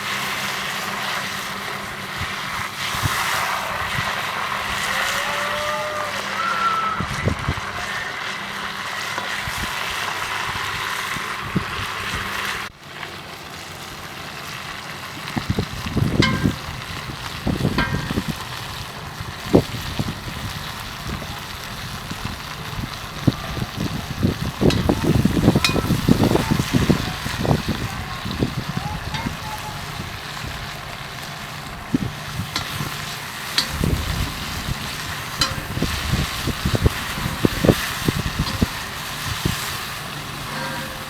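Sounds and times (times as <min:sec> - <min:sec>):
meat sizzling in oil: 0:00.0 - 0:06.4, 0:07.4 - 0:41.0.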